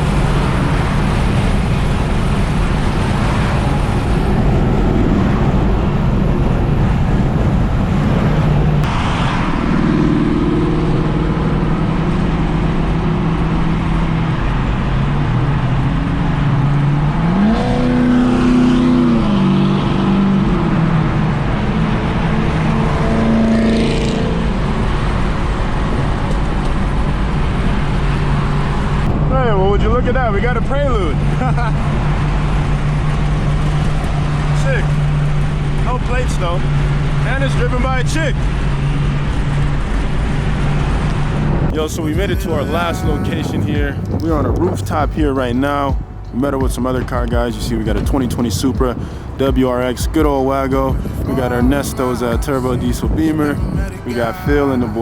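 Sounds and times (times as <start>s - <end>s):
car engine: 0.0s - 55.0s
road noise: 0.0s - 55.0s.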